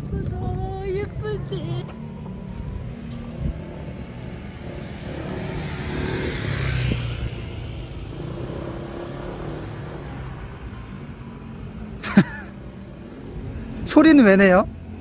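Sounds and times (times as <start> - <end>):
low traffic rumble: 0.0 - 15.0
vehicle passing by: 1.1 - 15.0.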